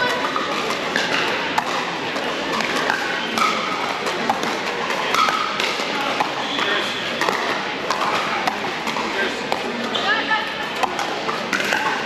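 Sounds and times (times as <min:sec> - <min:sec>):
echoing hubbub of voices: 0:00.0 - 0:12.0
paddles hitting plastic ball: 0:00.1 - 0:10.0, 0:10.7 - 0:12.0.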